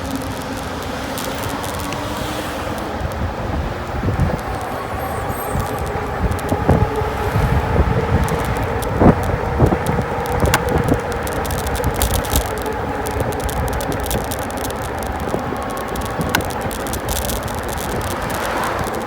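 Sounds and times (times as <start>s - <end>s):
bike rattling and clicking: 0.0s - 19.0s
road and wind noise: 0.0s - 19.0s.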